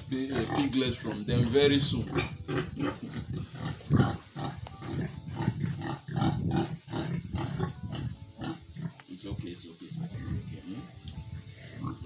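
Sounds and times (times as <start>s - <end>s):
pigs grunting: 0.0s - 11.0s, 11.6s - 12.0s.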